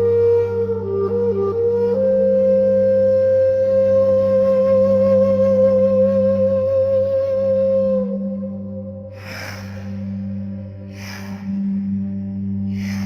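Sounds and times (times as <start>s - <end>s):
flute-like long note: 0.0s - 13.0s
steady low drone: 0.0s - 13.0s.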